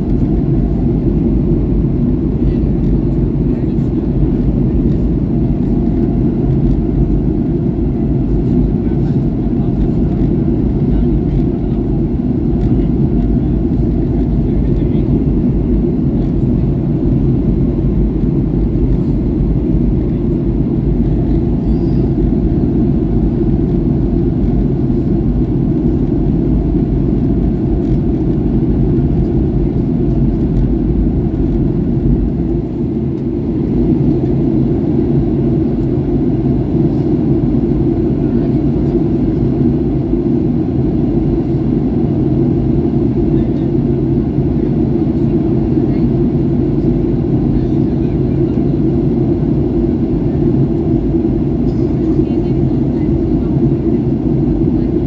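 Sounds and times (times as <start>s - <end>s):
airflow over fuselage: 0.0s - 55.0s
jet engine rumble: 0.0s - 55.0s.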